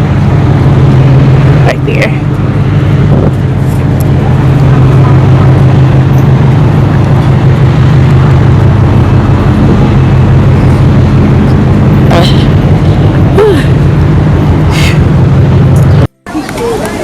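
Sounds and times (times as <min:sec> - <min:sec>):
engine running low hum: 0:00.0 - 0:17.0.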